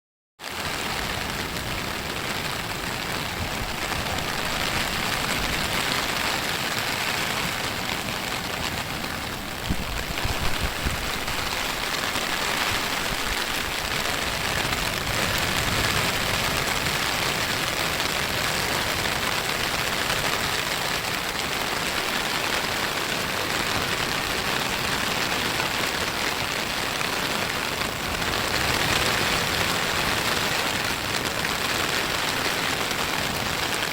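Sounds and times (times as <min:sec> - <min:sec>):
small waves breaking on beach: 0:00.4 - 0:33.9.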